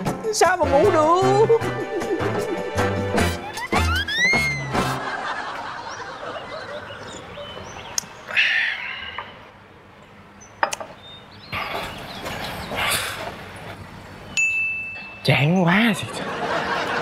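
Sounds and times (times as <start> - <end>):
birds chirping: 1.6 - 17.0.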